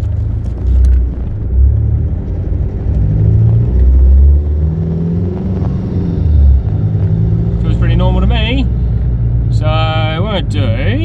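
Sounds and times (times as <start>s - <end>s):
diesel engine rumble: 0.0s - 11.0s
road noise: 0.0s - 11.0s.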